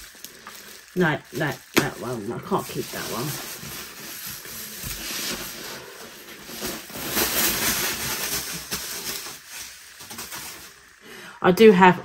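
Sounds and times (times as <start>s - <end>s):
plastic film crinkling: 0.0s - 11.1s.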